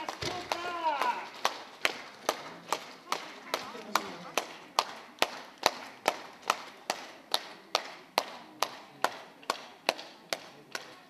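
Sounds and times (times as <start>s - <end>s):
audience clapping in unison: 0.0s - 11.0s.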